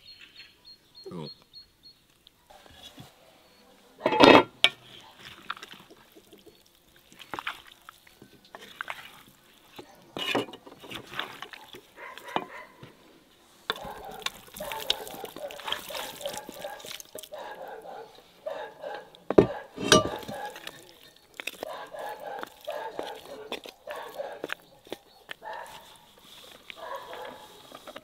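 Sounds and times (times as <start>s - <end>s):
spoon stirring and scraping stew: 4.0s - 28.0s.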